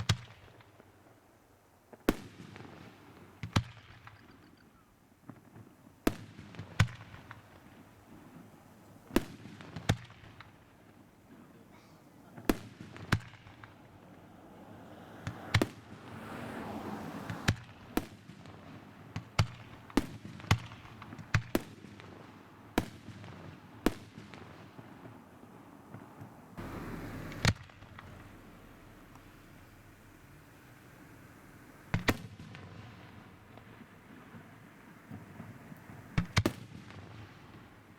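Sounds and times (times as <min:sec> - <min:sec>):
fireworks bursting with sharp bangs: 0:00.0 - 0:37.9.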